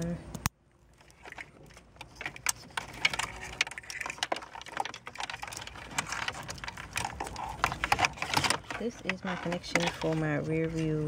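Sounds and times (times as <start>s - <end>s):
plastic connectors clicking and rattling: 0.2s - 11.0s.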